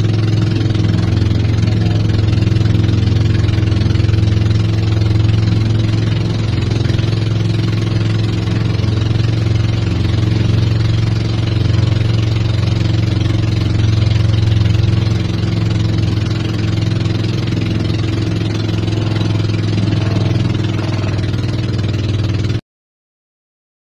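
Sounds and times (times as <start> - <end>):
boat engine humming: 0.0 - 22.6
water rushing along hull: 0.0 - 22.6.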